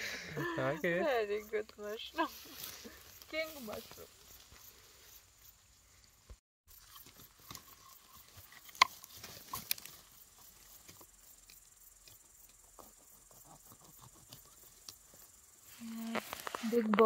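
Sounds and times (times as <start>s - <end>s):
grass and twigs rustling: 0.4s - 17.0s.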